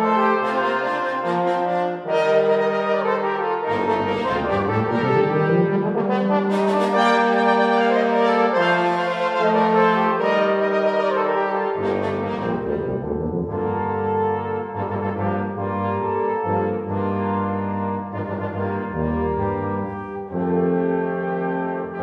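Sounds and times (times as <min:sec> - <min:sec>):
brass quintet playing chords: 0:00.0 - 0:22.0.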